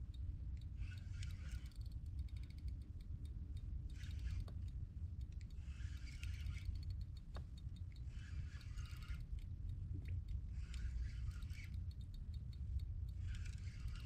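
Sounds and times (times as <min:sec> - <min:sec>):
fishing reel clicking whir: 0:00.0 - 0:14.0
steady low rumble: 0:00.0 - 0:14.0.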